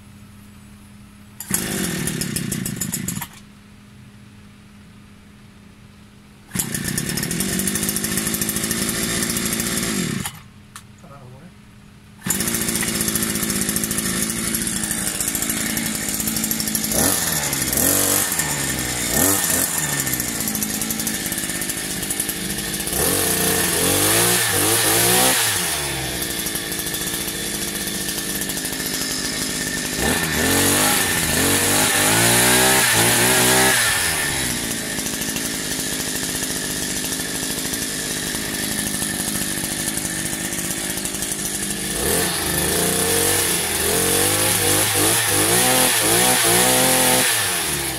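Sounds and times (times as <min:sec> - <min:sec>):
two-stroke engine revving: 0:01.4 - 0:03.4, 0:06.5 - 0:10.4, 0:12.2 - 0:47.9.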